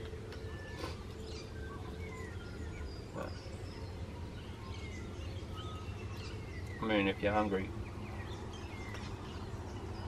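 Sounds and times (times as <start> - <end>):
bird chirps: 0.0 - 10.0
low steady rumble: 0.0 - 10.0.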